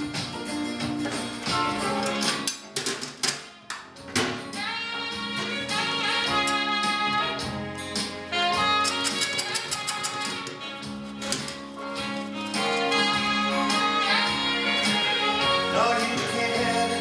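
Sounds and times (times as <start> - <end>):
background song: 3.4 - 17.0.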